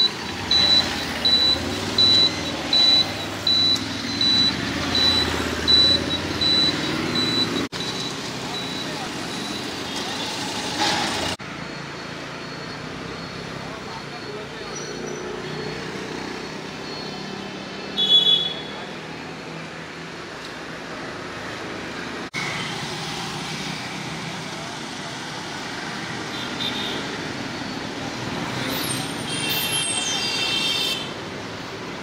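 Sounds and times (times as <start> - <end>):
road noise from passing vehicles: 0.0 - 32.0.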